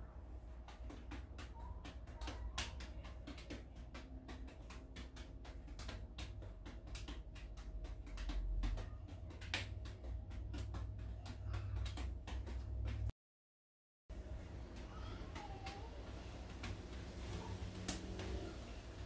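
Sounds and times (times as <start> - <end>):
juggling balls smacking into hands: 0.5 - 13.1, 14.7 - 18.6.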